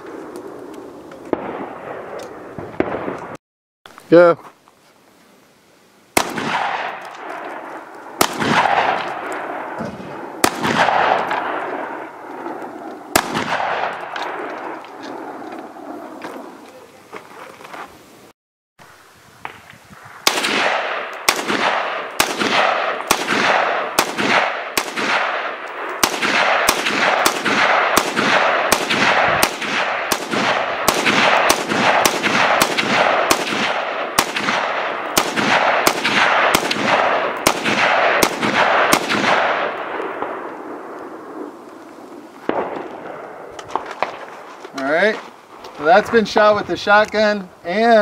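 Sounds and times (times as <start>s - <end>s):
rifle shots with echo: 0.0s - 3.4s, 6.2s - 16.5s, 19.4s - 44.3s.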